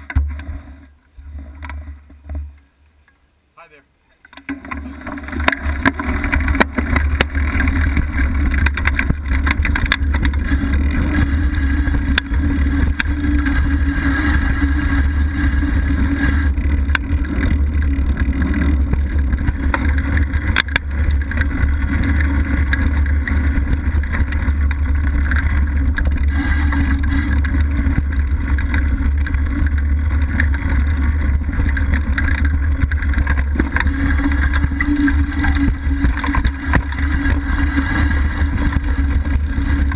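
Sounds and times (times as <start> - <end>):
bike tyres rumbling on dirt trail: 0.0 - 2.8, 4.4 - 39.9
bike clicks and rattles: 4.3 - 39.9
wind on microphone: 5.6 - 39.9.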